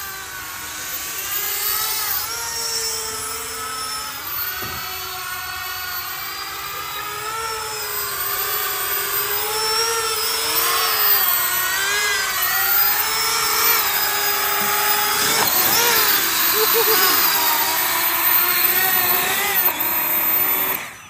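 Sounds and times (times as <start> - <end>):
drone ducted fans whining: 0.0 - 21.0.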